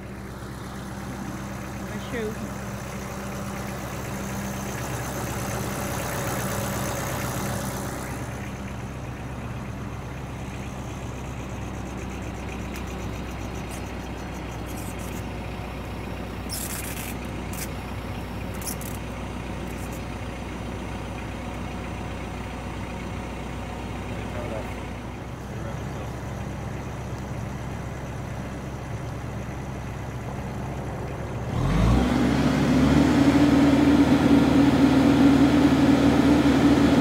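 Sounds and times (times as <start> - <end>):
tractor engine idling: 0.0 - 37.0.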